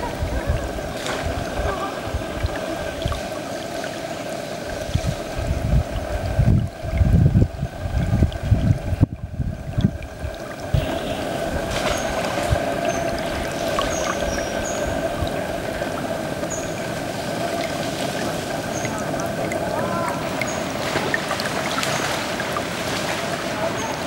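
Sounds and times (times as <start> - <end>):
river water splashing: 0.0 - 7.1, 9.8 - 24.0.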